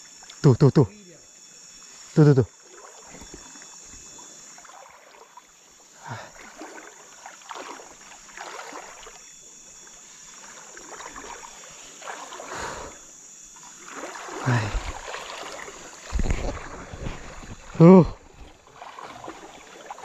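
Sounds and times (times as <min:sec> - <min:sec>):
water splashing and swishing: 0:01.8 - 0:20.0.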